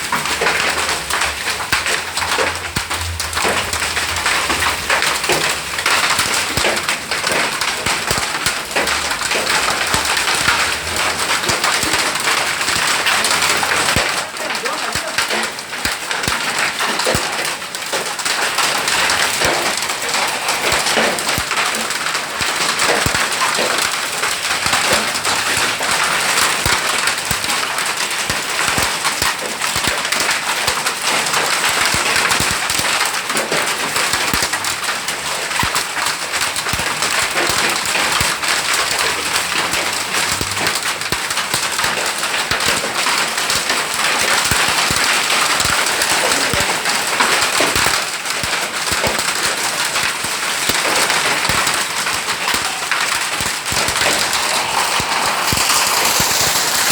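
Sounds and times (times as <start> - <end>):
heavy rain hissing: 0.0 - 56.9.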